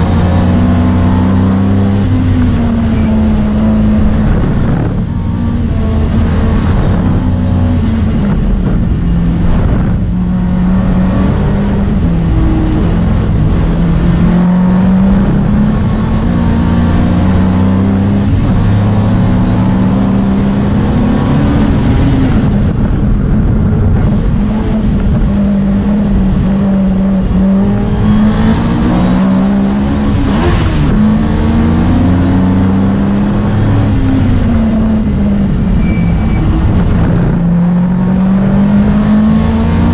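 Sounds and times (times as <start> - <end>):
race car engine revving: 0.0 - 39.9
wind and road noise: 0.0 - 39.9.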